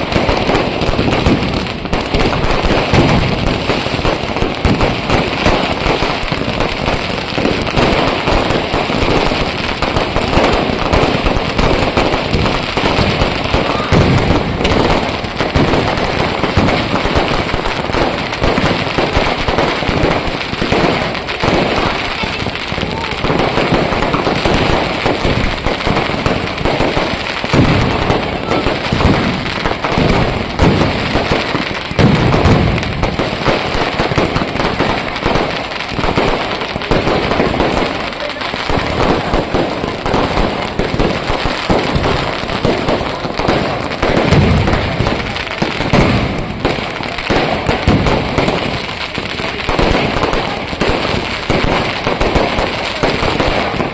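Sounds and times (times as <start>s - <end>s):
firecrackers and fireworks banging: 0.0s - 53.9s.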